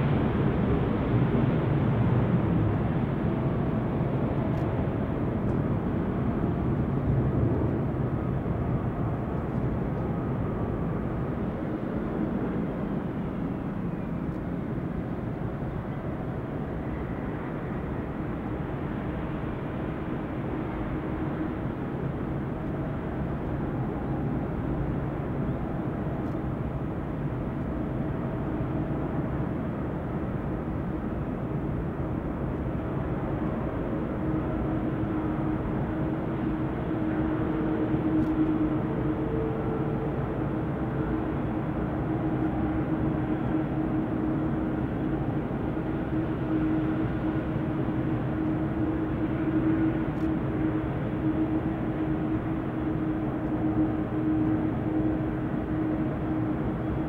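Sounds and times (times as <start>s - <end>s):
jet airliner engines rumbling: 0.0s - 57.0s.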